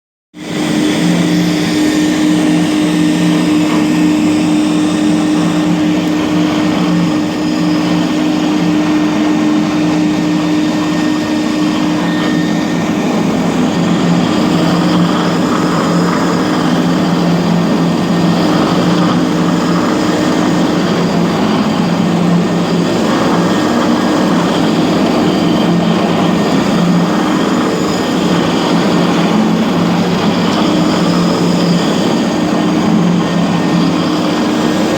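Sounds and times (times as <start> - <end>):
floor grinder motor hum: 0.4 - 34.9
grinding concrete floor: 0.4 - 34.9.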